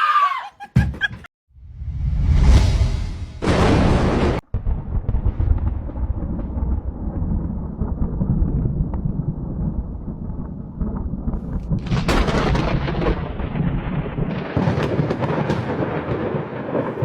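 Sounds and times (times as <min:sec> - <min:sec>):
thunder crack and rumble: 0:01.8 - 0:17.0.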